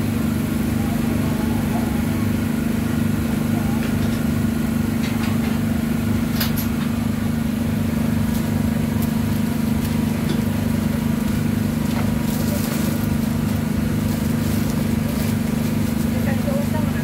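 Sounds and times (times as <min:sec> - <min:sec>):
engine running with low drone: 0:00.0 - 0:17.0.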